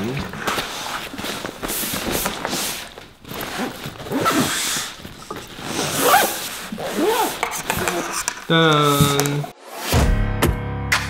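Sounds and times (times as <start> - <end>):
bag zipper rasping: 0.2 - 9.5.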